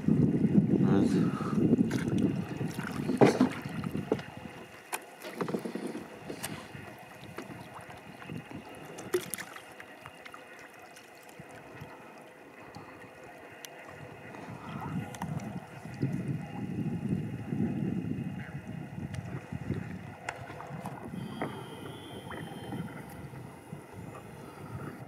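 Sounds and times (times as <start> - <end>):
kayak paddle splashing water: 1.8 - 16.6, 19.1 - 24.8.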